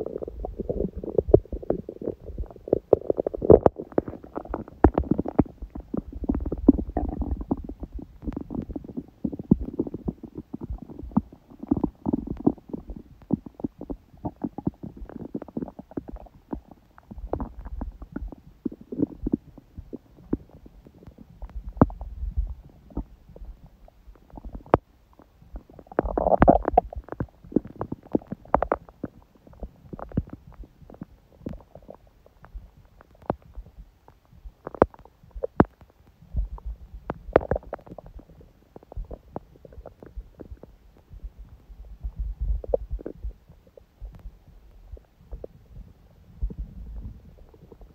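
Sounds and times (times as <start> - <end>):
stomach gurgling and rumbling: 0.0 - 47.9.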